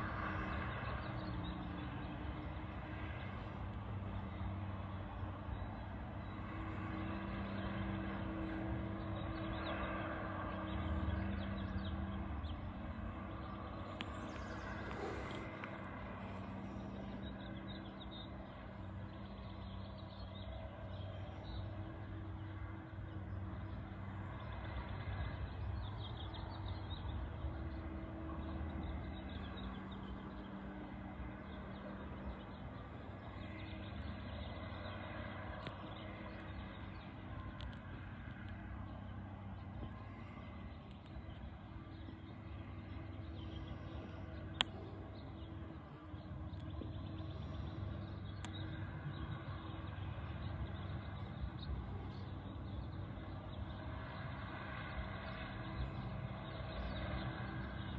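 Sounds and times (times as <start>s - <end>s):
distant diesel engine droning: 0.0s - 57.9s.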